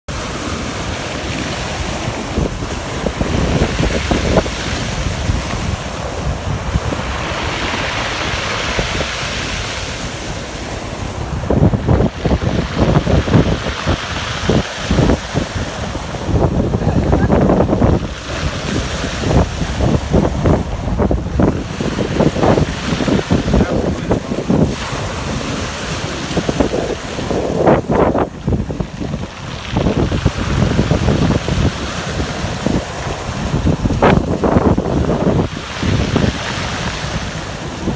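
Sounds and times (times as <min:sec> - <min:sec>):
sea surf washing in: 0:00.1 - 0:37.9
wind buffeting microphone: 0:00.1 - 0:37.9.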